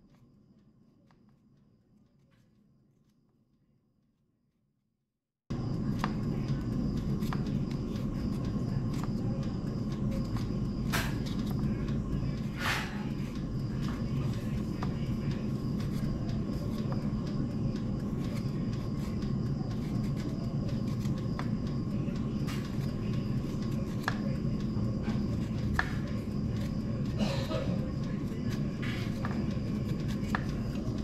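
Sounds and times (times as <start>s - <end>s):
steady low hum: 5.5s - 31.0s.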